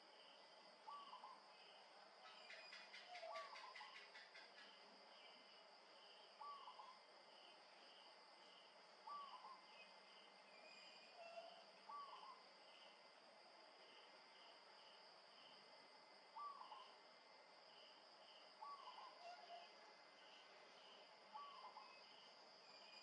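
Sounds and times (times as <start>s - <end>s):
faint insect chirping: 0.0s - 23.0s
high insect drone: 0.0s - 23.0s.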